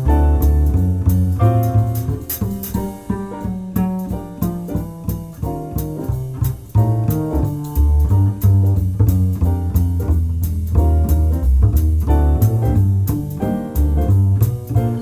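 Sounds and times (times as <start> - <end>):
jazz piano music: 0.0 - 15.0.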